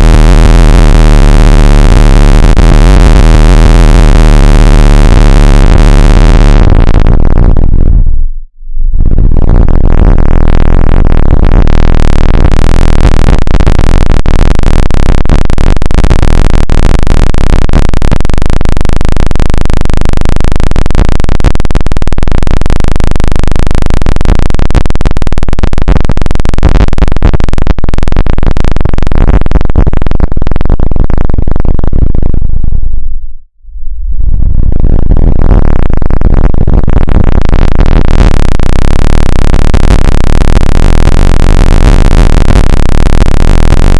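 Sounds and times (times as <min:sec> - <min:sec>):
harsh electronic noise: 0:00.0 - 0:43.9.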